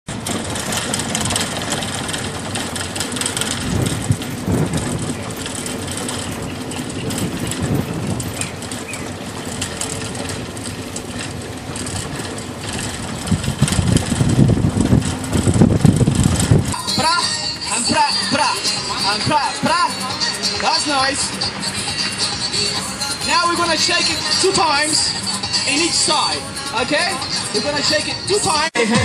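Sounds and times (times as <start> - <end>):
vehicle engine and road noise: 0.1 - 29.0.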